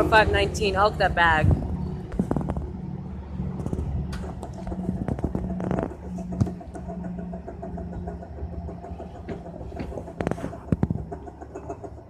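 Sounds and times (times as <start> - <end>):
locomotive diesel engine drone: 0.0 - 12.0
sharp clicks and knocks: 1.4 - 2.7, 3.5 - 12.0.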